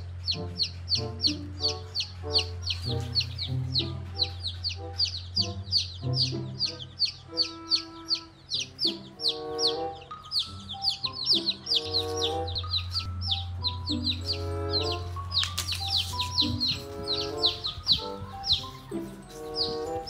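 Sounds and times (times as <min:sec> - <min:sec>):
baby chicks peeping: 0:00.0 - 0:20.0
background music: 0:00.0 - 0:20.0.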